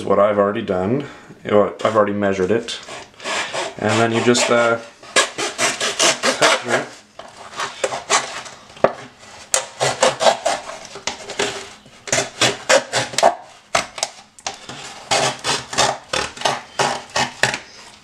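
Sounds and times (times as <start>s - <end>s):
knife sawing plastic cup: 2.7s - 8.6s, 9.2s - 18.0s.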